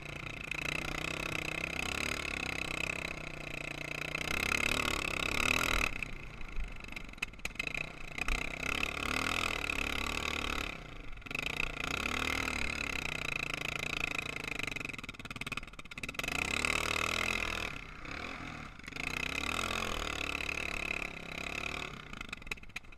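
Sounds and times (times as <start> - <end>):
atv engine revving: 0.0 - 22.9.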